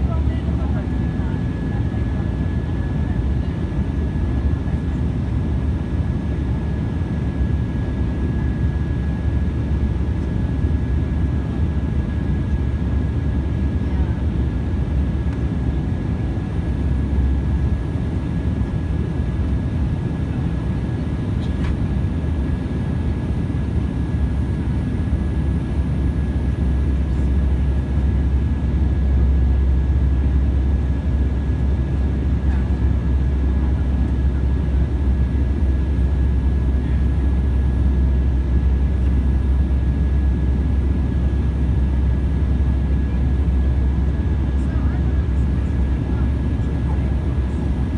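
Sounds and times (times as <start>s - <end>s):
jet engine and airflow rumble: 0.0s - 47.9s.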